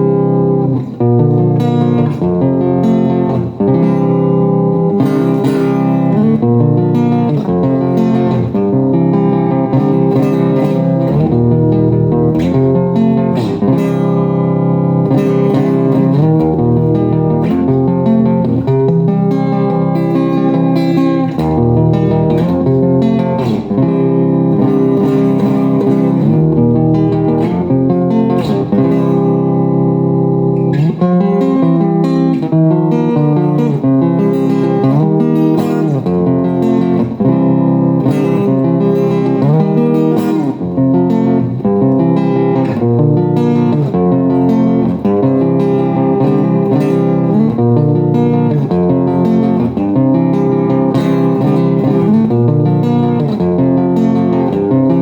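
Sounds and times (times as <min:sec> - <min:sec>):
guitar playing: 0:00.0 - 0:55.0.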